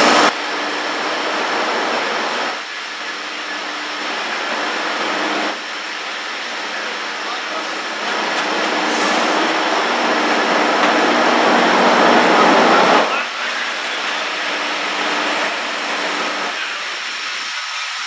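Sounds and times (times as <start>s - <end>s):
rush of passing train: 0.0s - 18.0s
train engine hum: 0.0s - 18.0s.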